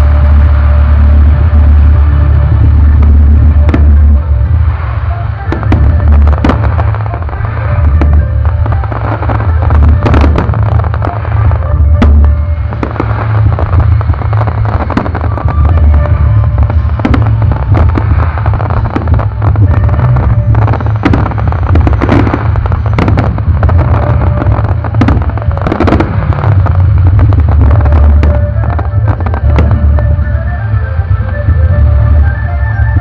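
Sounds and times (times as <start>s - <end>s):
fireworks bangs and crackles: 0.0s - 33.0s
steady low rumble: 0.0s - 33.0s.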